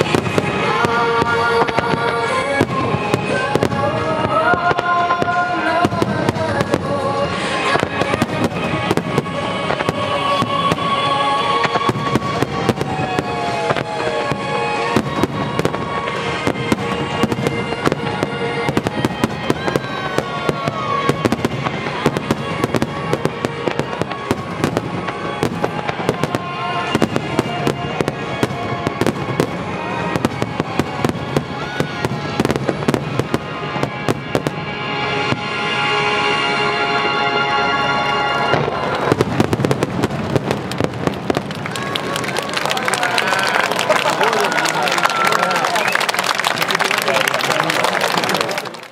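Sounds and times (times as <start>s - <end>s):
music playing: 0.0s - 48.6s
fireworks bursting and crackling: 0.0s - 48.9s.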